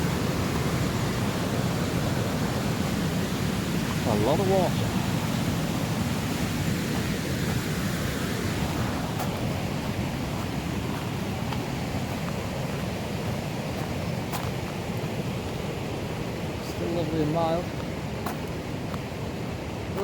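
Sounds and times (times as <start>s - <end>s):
river rushing: 0.0s - 20.0s.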